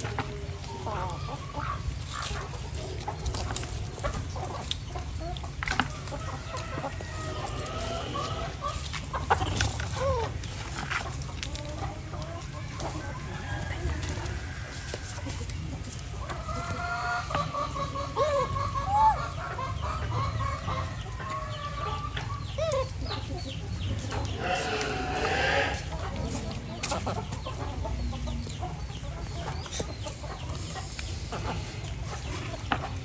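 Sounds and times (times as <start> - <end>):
chickens clucking and calling: 0.0 - 33.0.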